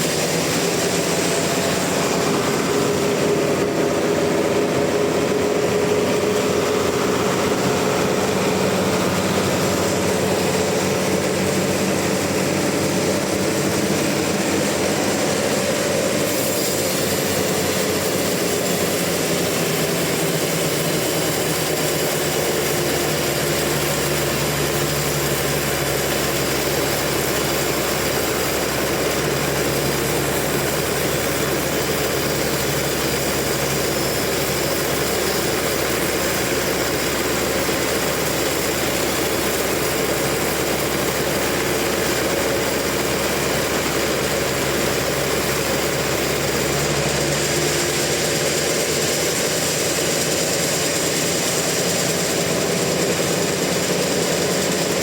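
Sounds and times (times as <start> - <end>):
sawmill saw sawing log: 0.0 - 55.0.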